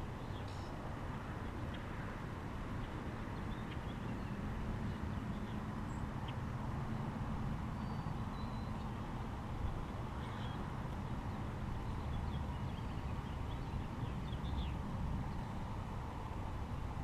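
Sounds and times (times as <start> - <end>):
low wind rumble on microphone: 0.0 - 17.0
small birds chirping faintly: 0.0 - 17.0.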